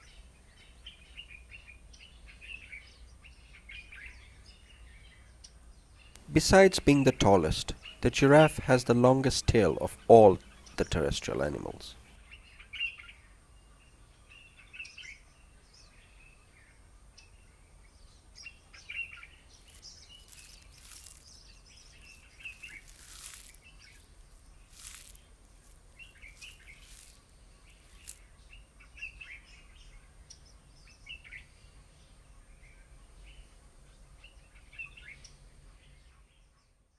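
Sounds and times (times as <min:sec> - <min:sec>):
birds chirping: 0:00.0 - 0:36.8
open-air ambience: 0:00.0 - 0:36.9.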